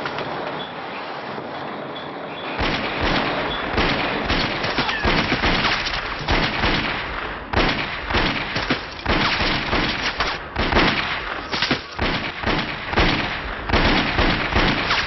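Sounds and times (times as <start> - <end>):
rapid gunfire: 2.6 - 15.0.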